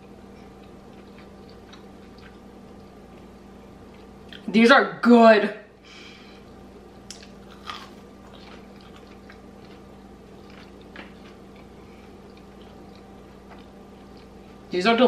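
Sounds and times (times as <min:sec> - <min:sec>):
soft chewing with clicks: 0:00.0 - 0:04.5, 0:07.0 - 0:14.7
steady low hum: 0:00.0 - 0:15.0.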